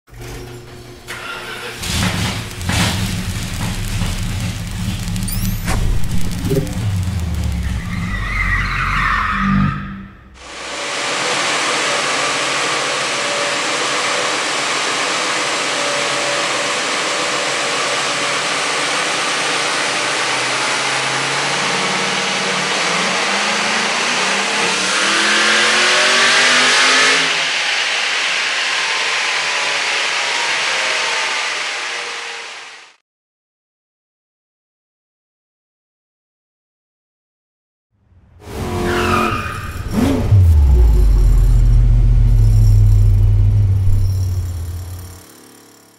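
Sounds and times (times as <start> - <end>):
dyno rollers rushing: 0.1 - 32.7, 38.4 - 45.9
engine revving on dyno: 1.0 - 8.7, 10.1 - 33.0, 38.4 - 45.9.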